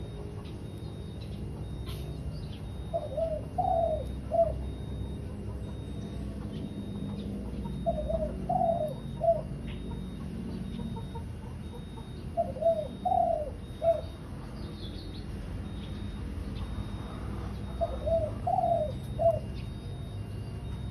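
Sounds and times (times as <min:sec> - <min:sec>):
dove cooing: 0:00.0 - 0:20.9.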